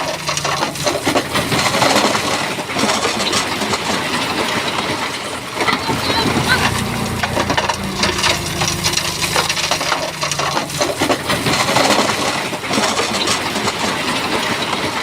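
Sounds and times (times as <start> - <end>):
bulldozer diesel engine: 0.1 - 14.2.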